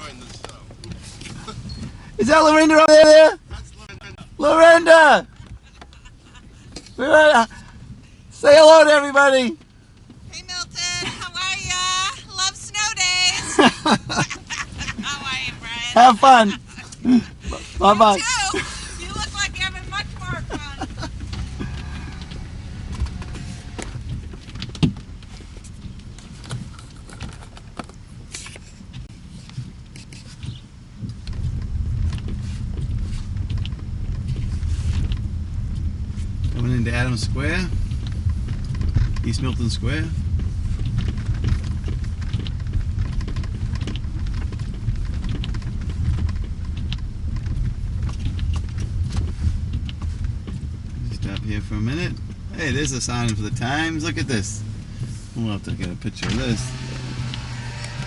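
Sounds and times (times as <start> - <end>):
car rumbling slowly: 0.0 - 58.0.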